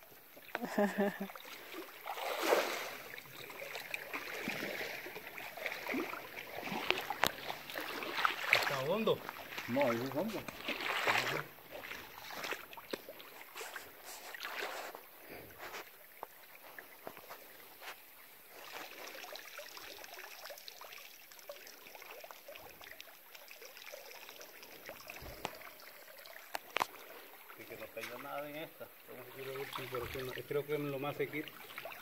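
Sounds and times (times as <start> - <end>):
water dripping from net: 0.0 - 14.6, 16.0 - 32.0
water sloshing around wader: 0.0 - 32.0.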